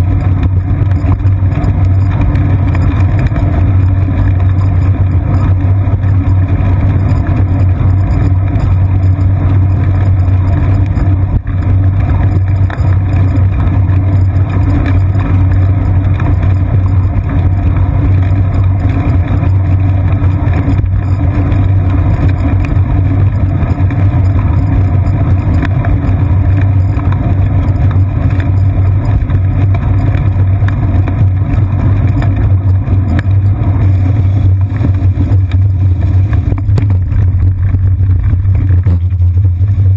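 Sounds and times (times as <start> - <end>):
tyres rolling on pavement: 0.0 - 39.9.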